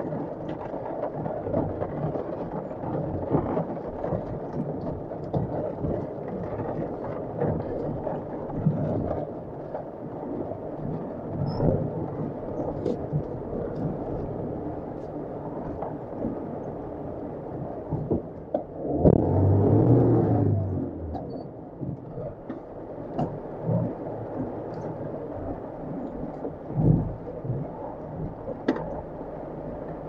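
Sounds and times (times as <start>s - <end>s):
engine running low: 0.0s - 30.0s
heavy rain drumming on vehicle: 0.0s - 30.0s.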